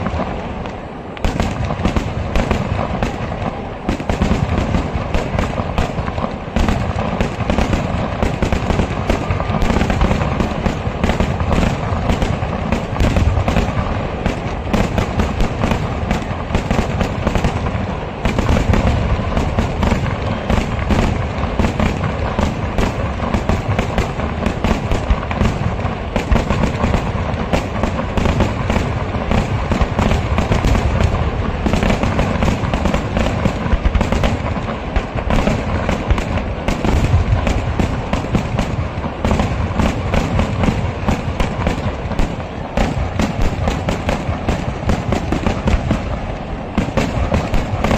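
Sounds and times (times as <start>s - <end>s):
firecracker rattle: 0.0s - 47.9s
heavy low booms: 0.0s - 47.9s.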